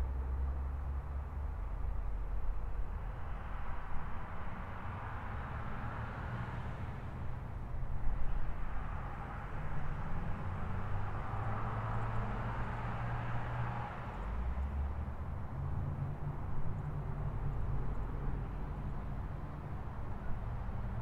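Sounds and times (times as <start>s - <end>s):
city traffic hum: 0.0s - 21.0s.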